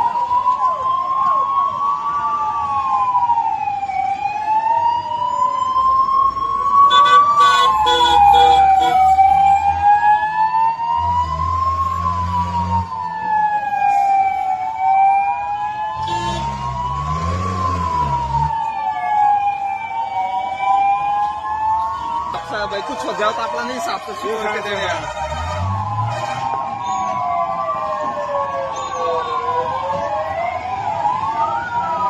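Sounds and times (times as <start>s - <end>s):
air raid siren wailing: 0.0s - 32.0s.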